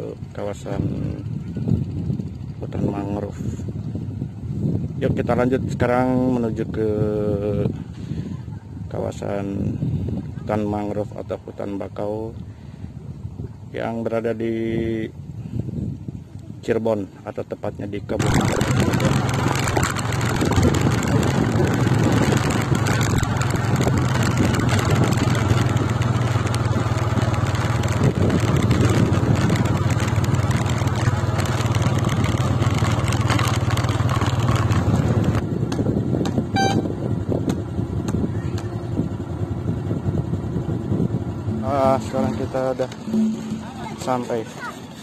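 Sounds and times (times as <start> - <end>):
motorcycle engine cruising: 0.0 - 11.1, 18.0 - 45.0
wind noise on microphone: 0.0 - 45.0.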